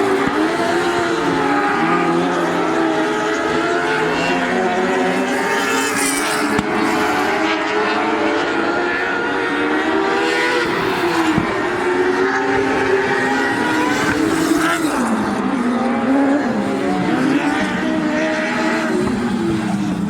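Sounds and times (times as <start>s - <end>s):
racing car engines revving: 0.0s - 20.0s.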